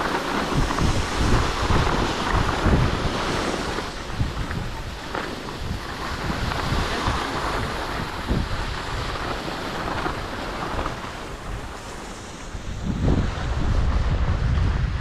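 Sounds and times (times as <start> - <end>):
skis scraping over snow: 0.0 - 15.0
wind rumbling on microphone: 0.0 - 15.0.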